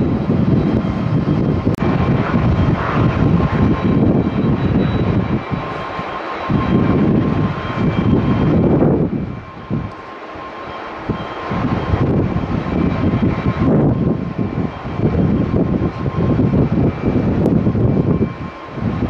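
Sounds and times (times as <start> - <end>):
jet engines rumbling: 0.0 - 19.0
thin steady whine: 0.0 - 19.0
wind buffeting microphone: 0.0 - 19.0.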